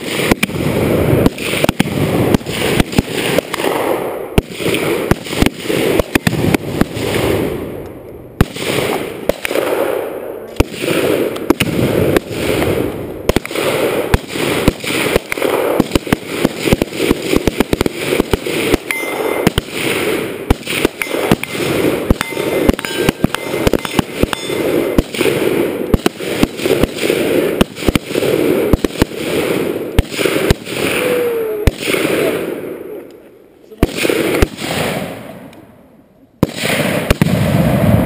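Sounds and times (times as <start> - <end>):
rapid rifle gunfire: 0.0 - 7.6, 8.4 - 32.7, 33.8 - 35.3, 36.4 - 38.0
exploding targets: 0.0 - 33.1, 33.7 - 35.6, 36.4 - 38.0.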